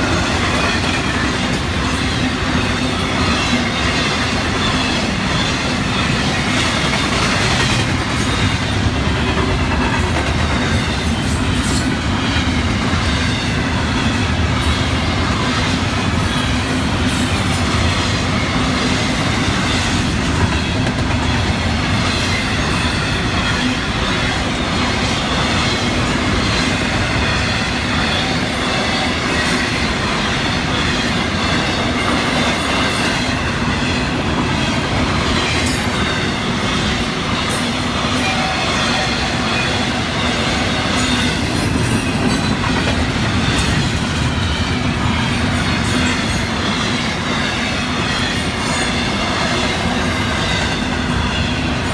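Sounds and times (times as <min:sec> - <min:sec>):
freight train wheels rumbling on rails: 0:00.0 - 0:51.9.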